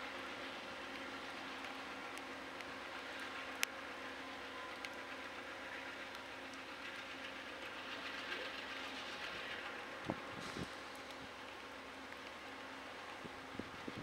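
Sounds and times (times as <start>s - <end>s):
diesel locomotives idling: 0.0s - 14.0s.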